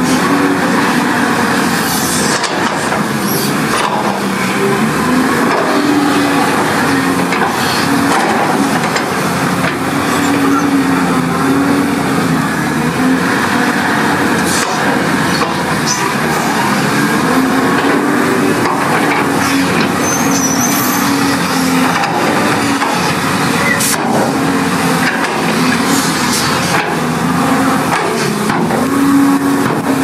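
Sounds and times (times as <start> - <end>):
diesel engine running under load: 0.0 - 30.0.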